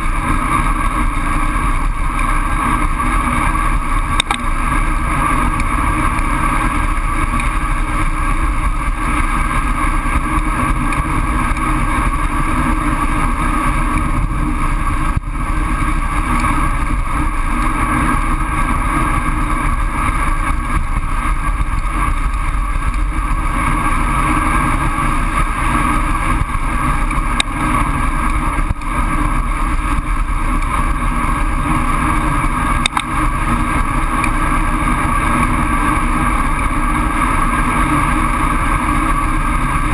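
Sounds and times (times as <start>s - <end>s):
tyres humming on asphalt: 0.0s - 39.9s.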